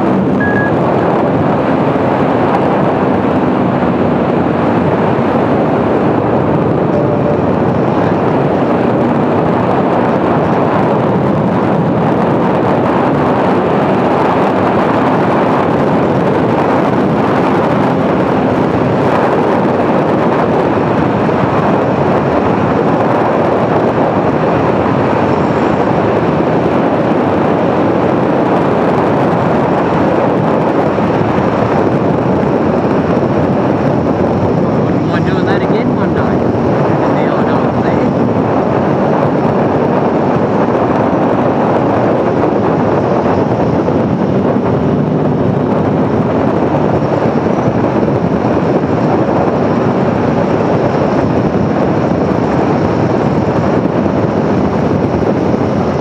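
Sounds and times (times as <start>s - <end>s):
motorcycle engine running: 0.0s - 56.0s
wind rush over microphone: 0.0s - 56.0s.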